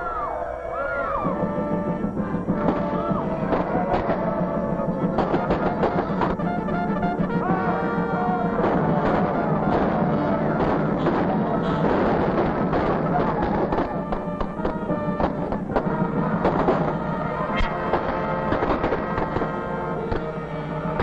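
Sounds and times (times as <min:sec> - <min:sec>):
orchestral music with brass: 0:00.0 - 0:21.0
percussion strikes: 0:01.2 - 0:21.0.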